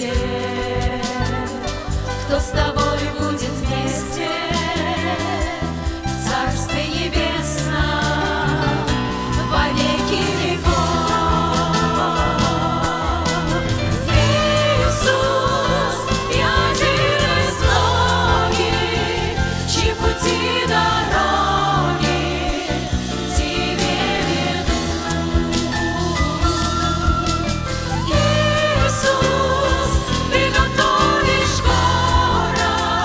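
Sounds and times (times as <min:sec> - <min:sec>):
bass line: 0:00.0 - 0:33.0
drums: 0:00.0 - 0:33.0
group singing worship song: 0:00.0 - 0:33.0.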